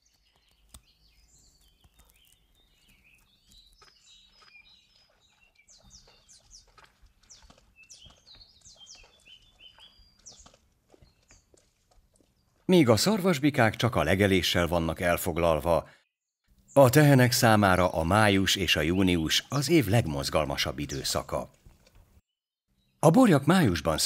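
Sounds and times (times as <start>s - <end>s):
small birds chirping: 0.0s - 22.1s, 22.7s - 24.0s.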